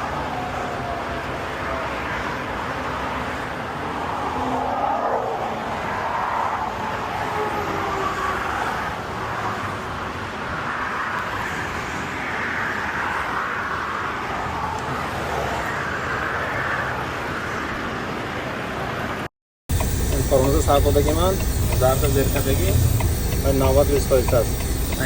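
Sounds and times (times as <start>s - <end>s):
traffic rushing: 0.0s - 25.0s.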